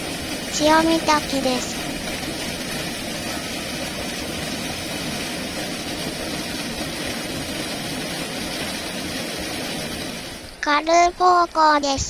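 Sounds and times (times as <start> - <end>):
waterfall rushing: 0.0 - 11.5.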